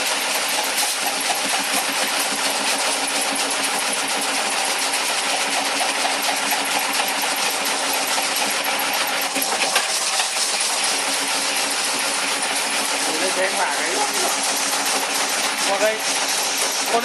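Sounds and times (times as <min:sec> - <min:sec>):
brush-making machine clattering: 0:00.0 - 0:17.0.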